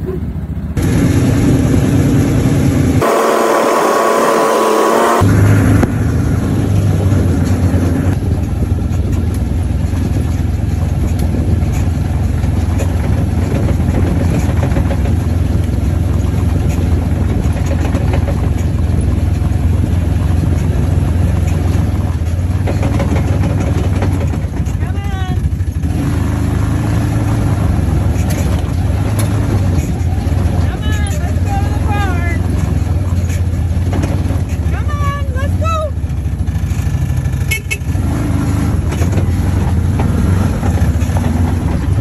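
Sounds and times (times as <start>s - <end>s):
vehicle engine humming inside cabin: 0.0s - 42.0s.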